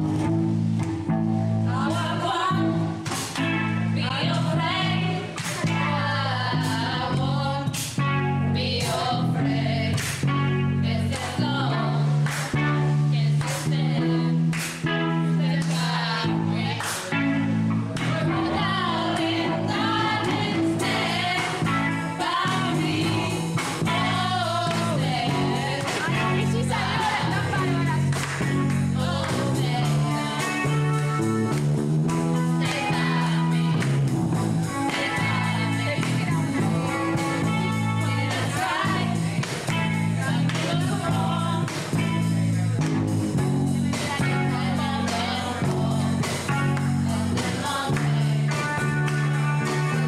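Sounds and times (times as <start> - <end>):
guitar: 0.0 - 50.0
low bass notes: 0.0 - 50.0
girls singing into microphone: 1.7 - 31.3, 32.3 - 42.6, 43.4 - 49.9.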